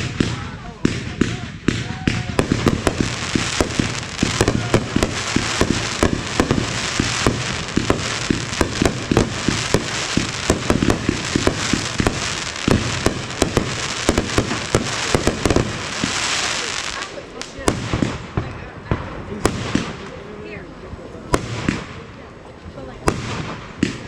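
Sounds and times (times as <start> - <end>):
crackling hiss: 0.0 - 20.3
fireworks popping and banging: 0.0 - 20.6, 21.2 - 22.3, 22.9 - 24.0.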